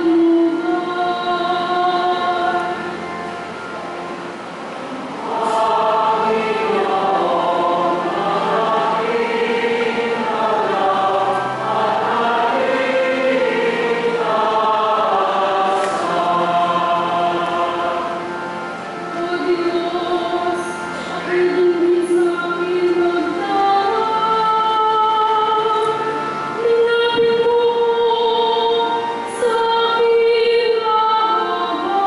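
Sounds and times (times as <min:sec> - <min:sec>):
choir singing: 0:00.0 - 0:03.0, 0:05.1 - 0:32.0.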